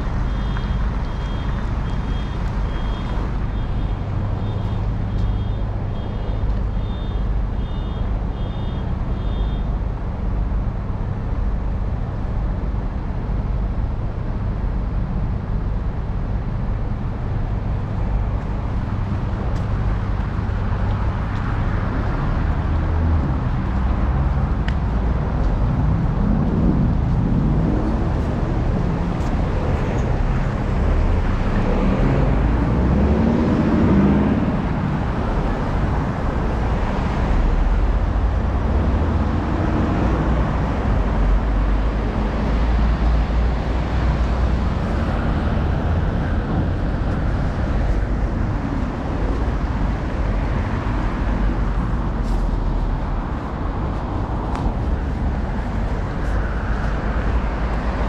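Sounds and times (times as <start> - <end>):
dense city road traffic: 0.0 - 58.0.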